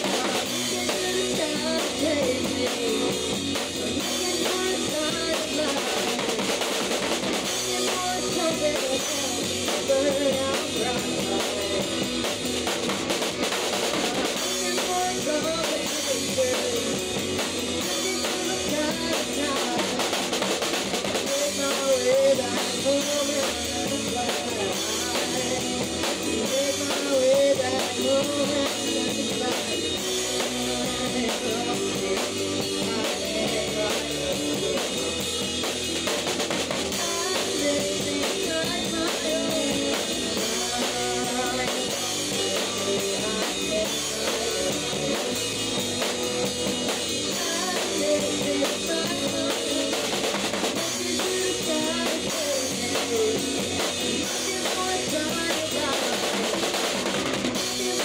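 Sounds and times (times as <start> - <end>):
kick drum snare and cymbals: 0.0 - 58.0
live rock band playing: 0.0 - 58.0.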